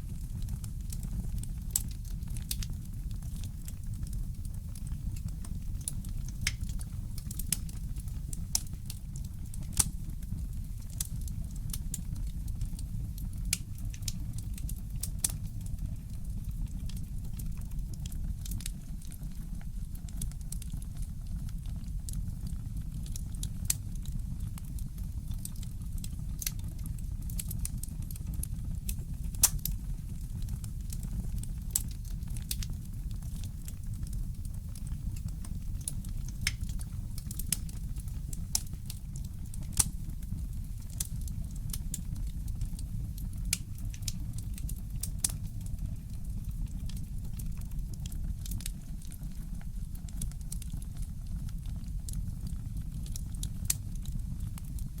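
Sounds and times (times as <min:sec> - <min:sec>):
wood fire crackling: 0:00.0 - 0:55.0
fire pops and snaps: 0:00.1 - 0:19.2, 0:24.5 - 0:55.0.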